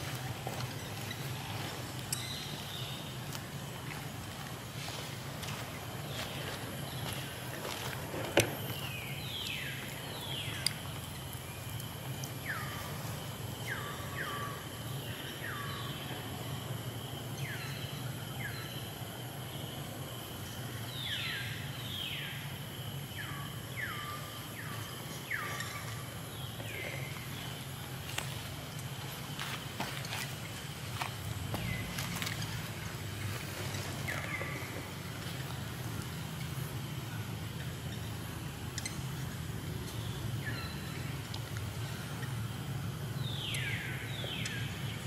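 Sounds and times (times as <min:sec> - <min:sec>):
insect drone: 0:00.0 - 0:45.0.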